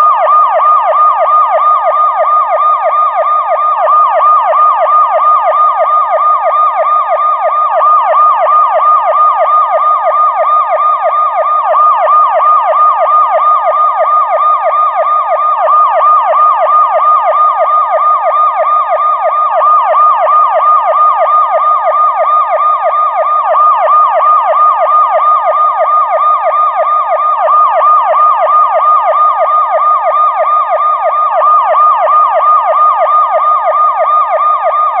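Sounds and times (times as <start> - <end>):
police siren yelping: 0.0 - 35.0.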